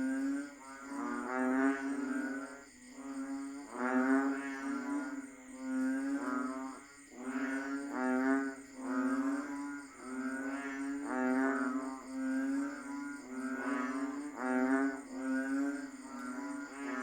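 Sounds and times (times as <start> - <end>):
faint high insect buzzing: 0.0 - 17.0
frogs calling in chorus: 0.0 - 17.0.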